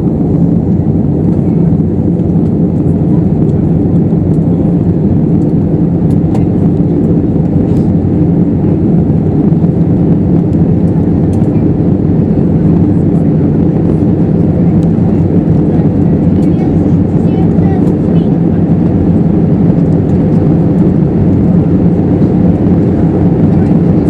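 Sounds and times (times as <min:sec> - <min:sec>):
airplane cabin roar: 0:00.0 - 0:24.0
jet engine hum: 0:00.0 - 0:24.0.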